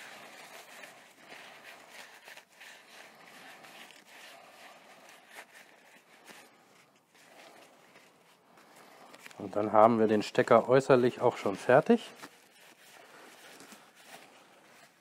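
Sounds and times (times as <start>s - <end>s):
paper towel rubbing on metal: 0.0s - 15.0s.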